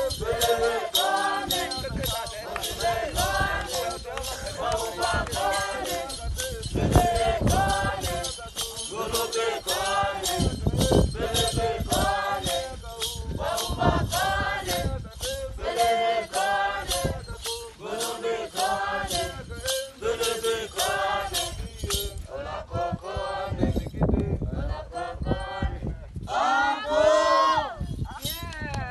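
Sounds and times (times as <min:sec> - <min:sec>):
shaken rattling beat: 0:00.0 - 0:24.1
group singing dance song: 0:00.0 - 0:27.8.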